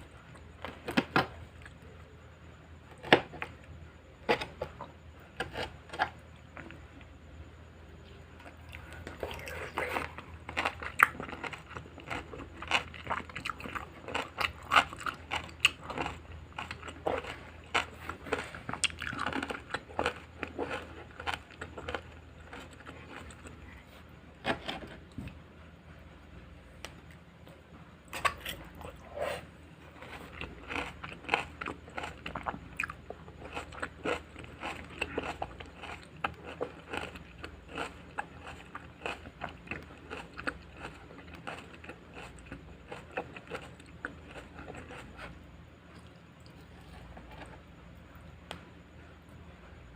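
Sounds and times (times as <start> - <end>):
crunching and chewing salad: 0.0 - 49.9.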